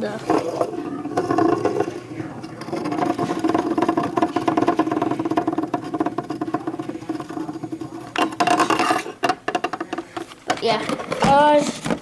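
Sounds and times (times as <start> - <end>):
spinning top whirring: 0.0 - 10.0
spinning top knocking: 0.2 - 10.6.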